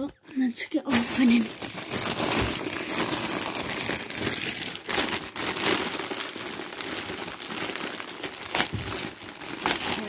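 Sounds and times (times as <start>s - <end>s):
package wrapping crinkling: 0.9s - 10.0s.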